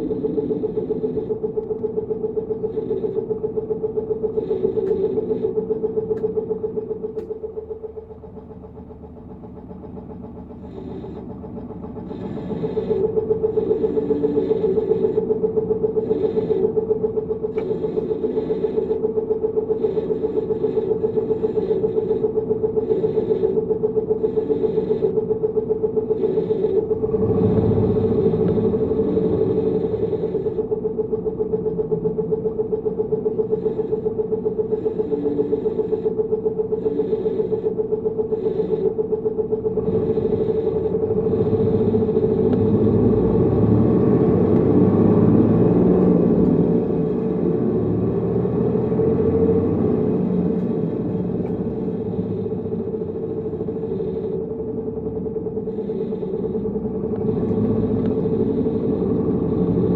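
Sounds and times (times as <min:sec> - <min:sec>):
bus engine with high whine: 0:00.0 - 0:59.9.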